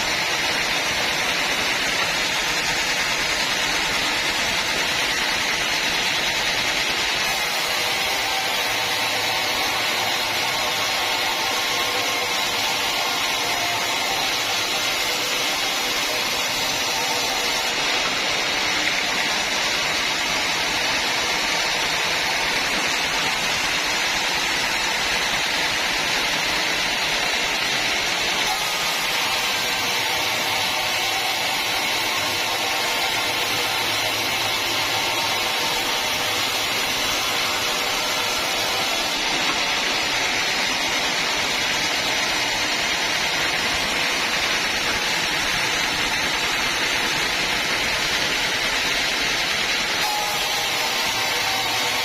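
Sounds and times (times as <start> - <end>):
band saw cutting log: 0.0 - 52.0.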